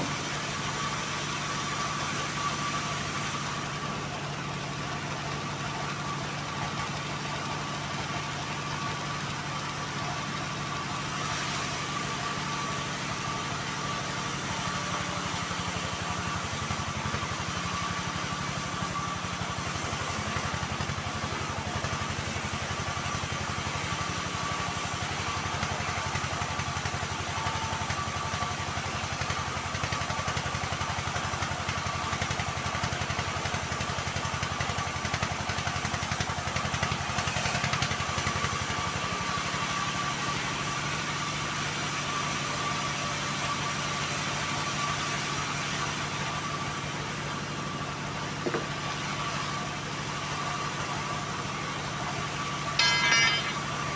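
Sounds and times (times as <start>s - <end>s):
sawmill machine hum: 0.0s - 53.9s.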